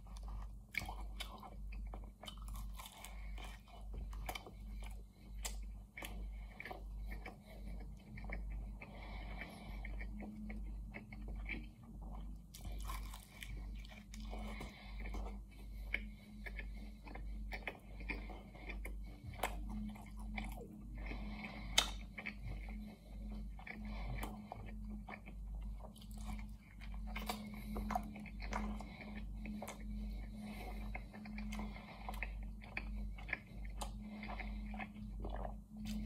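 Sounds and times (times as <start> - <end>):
flaky pastry crunching: 0.0 - 8.9, 9.8 - 22.9, 23.5 - 36.0
chewing and biting pie: 0.0 - 36.0.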